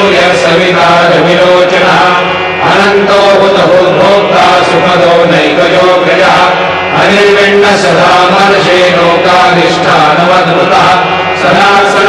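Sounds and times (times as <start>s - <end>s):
low drone: 0.0s - 12.0s
person chanting verses: 0.0s - 12.0s.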